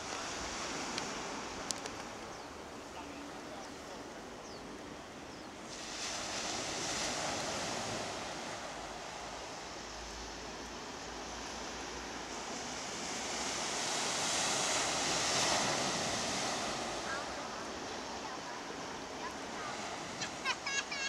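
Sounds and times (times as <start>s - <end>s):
sea surf breaking on shore: 0.0s - 21.0s.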